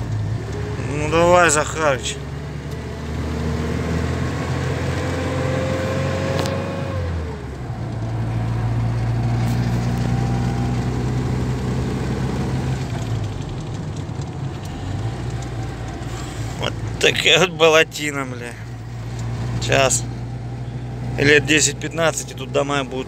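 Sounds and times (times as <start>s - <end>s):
van engine running: 0.0s - 23.0s.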